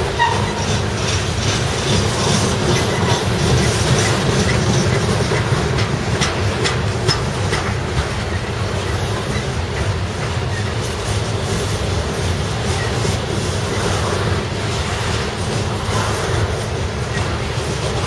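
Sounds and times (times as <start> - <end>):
clickety-clack over rail joints: 0.0 - 18.0
freight train wheels rumbling: 0.0 - 18.0.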